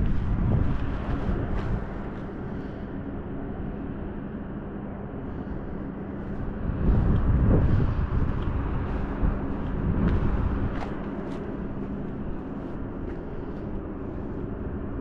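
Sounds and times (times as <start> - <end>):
steady low hum: 0.0 - 15.0
wind buffeting microphone: 0.0 - 15.0.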